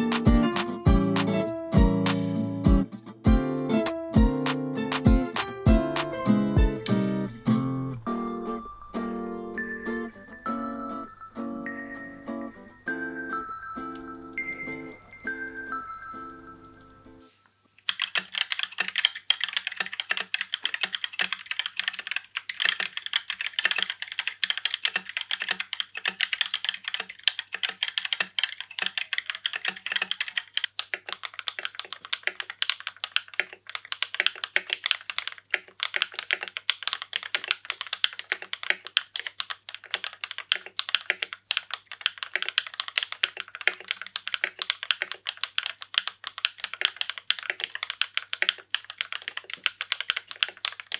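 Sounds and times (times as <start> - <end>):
mechanical keyboard typing: 4.9 - 17.2, 17.8 - 50.9.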